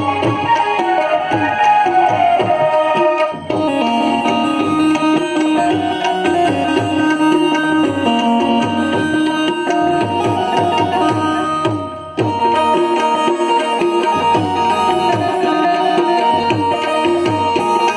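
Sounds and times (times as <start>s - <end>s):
held melody notes: 0.0s - 17.9s
tabla drumming: 0.0s - 17.9s.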